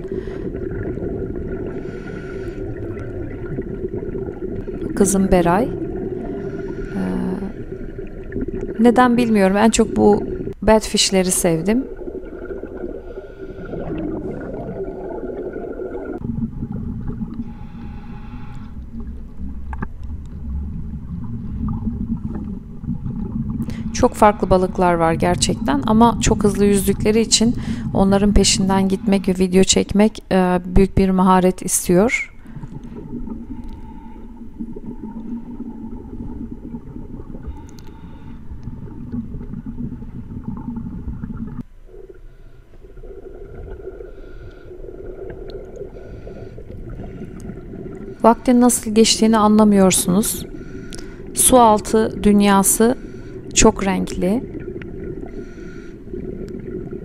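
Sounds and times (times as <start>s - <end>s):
muffled underwater rumble: 0.0s - 10.6s, 11.3s - 29.7s, 32.3s - 57.0s
faint hum: 0.0s - 57.0s.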